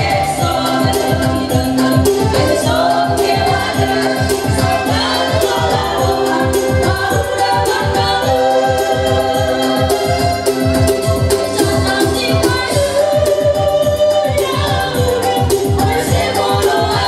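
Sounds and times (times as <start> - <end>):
electronic drum beat: 0.0 - 17.0
keyboard organ-like chords: 0.0 - 17.0
women singing through microphones: 0.0 - 17.0.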